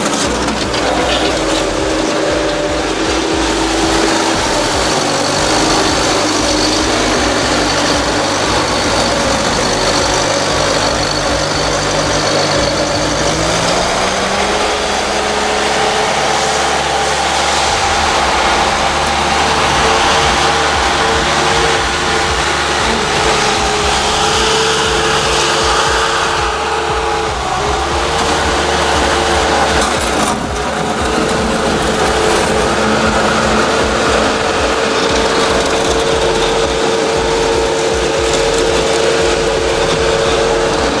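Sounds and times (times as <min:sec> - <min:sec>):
constant whine: 0:00.0 - 0:41.0
diesel engine running: 0:00.0 - 0:41.0.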